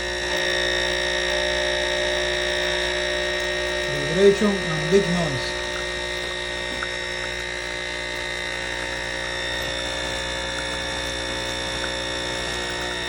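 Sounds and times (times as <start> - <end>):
espresso machine pump humming: 0.0 - 13.0.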